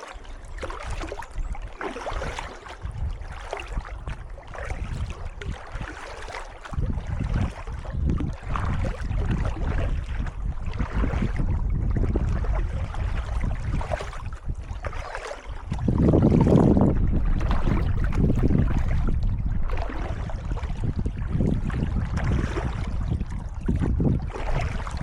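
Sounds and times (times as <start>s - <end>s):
paddle strokes splashing water: 0.0s - 25.0s
wind on microphone: 0.0s - 25.0s.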